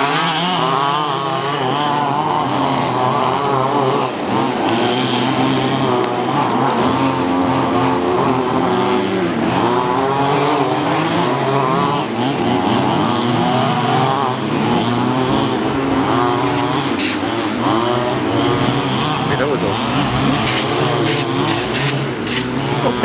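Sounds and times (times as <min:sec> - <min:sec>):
small two-stroke engines revving: 0:00.0 - 0:23.0.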